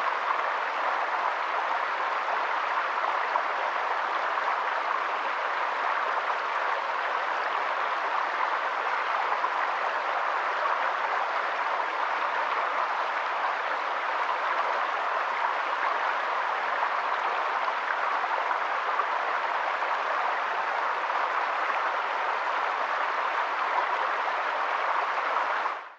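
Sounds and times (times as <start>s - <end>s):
stream water flowing: 0.0s - 25.9s.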